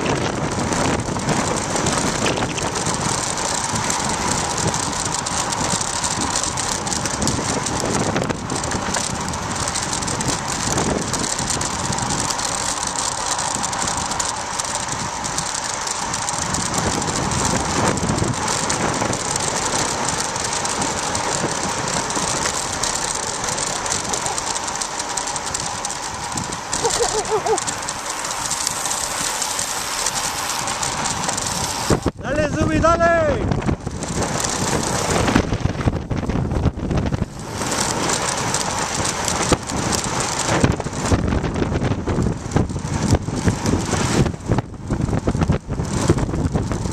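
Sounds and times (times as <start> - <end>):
wind rushing on microphone: 0.0 - 29.4, 30.0 - 46.9
bicycle freehub ratchet buzzing: 0.0 - 46.9.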